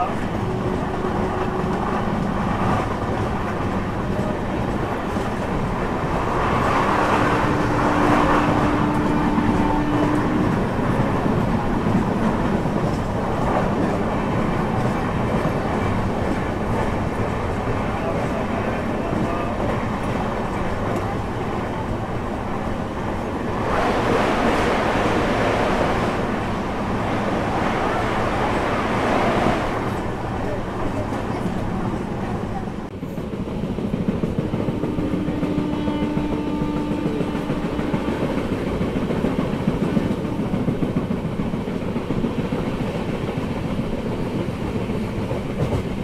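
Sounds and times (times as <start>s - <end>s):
train wheels rumbling on rail: 0.0s - 46.0s.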